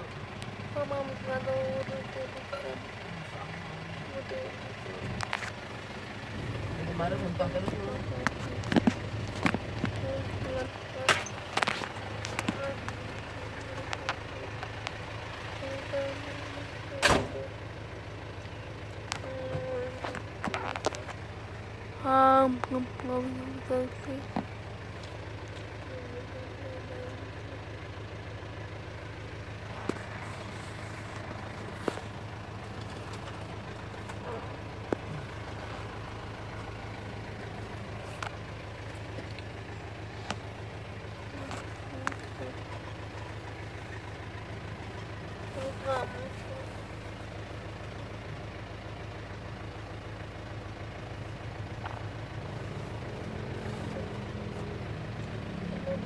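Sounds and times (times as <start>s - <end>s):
car engine hum and road rumble: 0.0s - 56.0s.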